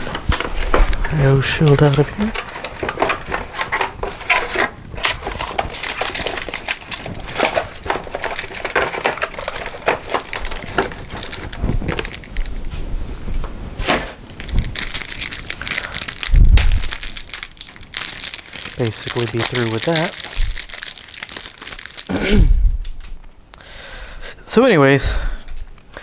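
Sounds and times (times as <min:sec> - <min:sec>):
cardboard packaging rustling: 0:00.0 - 0:23.2.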